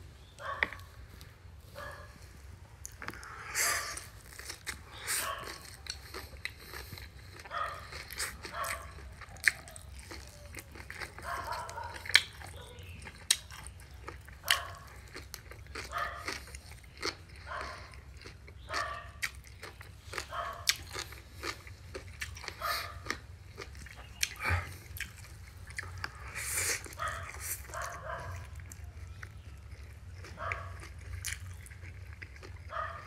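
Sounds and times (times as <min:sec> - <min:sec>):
chewing and lip smacking: 0:02.8 - 0:33.0.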